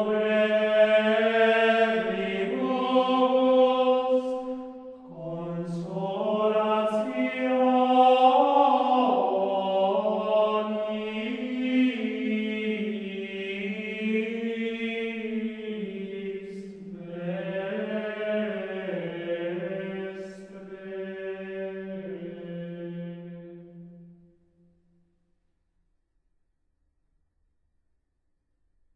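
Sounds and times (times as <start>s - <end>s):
slow chanted singing: 0.0s - 24.7s.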